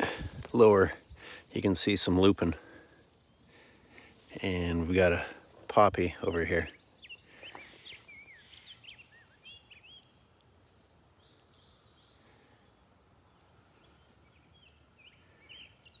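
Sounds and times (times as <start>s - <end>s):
faint birdsong chirps: 0.0s - 16.0s
open-air ambience: 0.0s - 16.0s.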